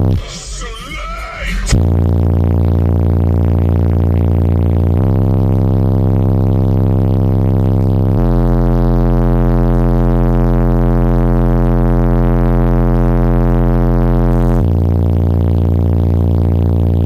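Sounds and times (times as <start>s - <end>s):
subwoofer bass test tone: 0.0s - 0.7s, 1.4s - 17.0s.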